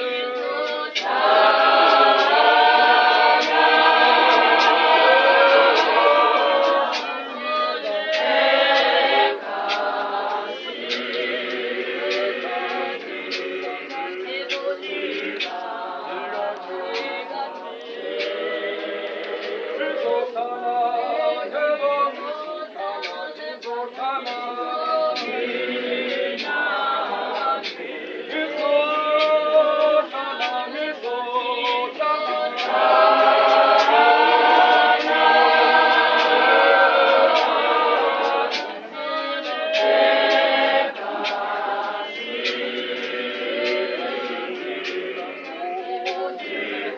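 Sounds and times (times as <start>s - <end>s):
congregation singing a hymn: 0.0s - 46.9s.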